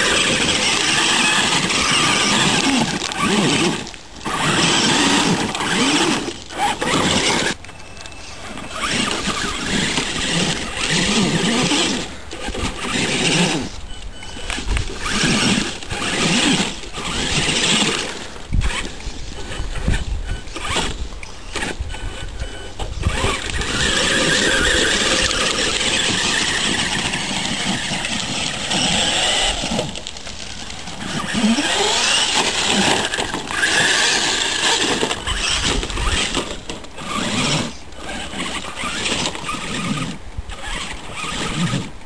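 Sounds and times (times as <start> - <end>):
electric motor whining: 0.0 - 42.0
tyres scrabbling over stones: 0.0 - 42.0.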